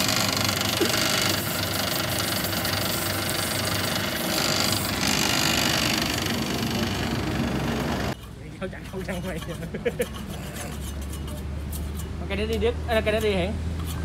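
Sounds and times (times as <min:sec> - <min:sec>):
sugarcane peeling machine running: 0:00.0 - 0:13.0
blades scraping rind: 0:00.0 - 0:14.0.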